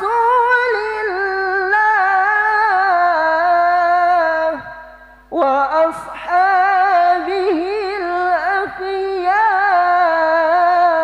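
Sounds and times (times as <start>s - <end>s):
boy chanting through a microphone: 0.0s - 11.0s.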